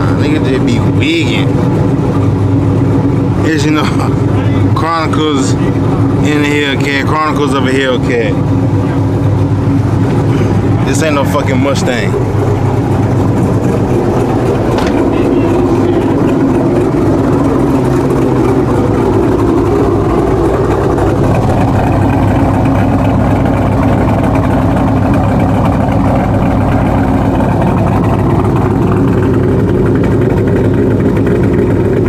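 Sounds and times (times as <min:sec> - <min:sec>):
car engine and road drone: 0:00.0 - 0:32.0.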